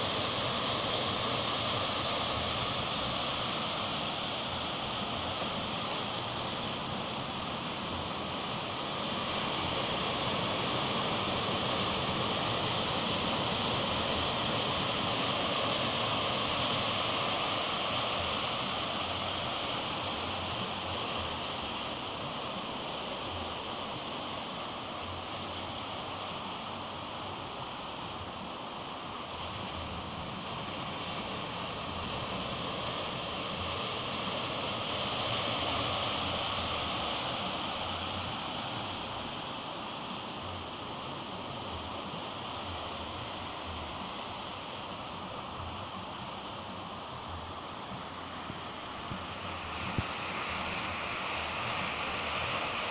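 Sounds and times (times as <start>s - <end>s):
surf and churning whitewater: 0.0s - 52.9s.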